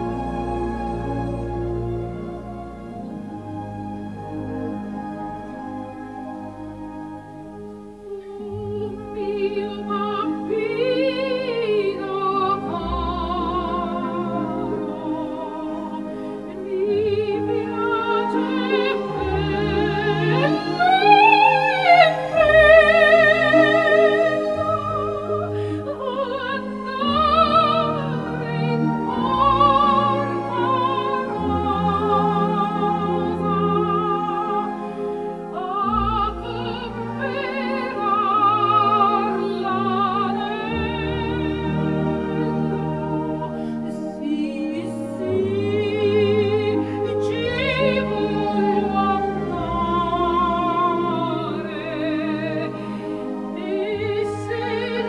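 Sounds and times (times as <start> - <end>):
sustained accompaniment: 0.0 - 55.0
operatic voice singing: 8.1 - 55.0.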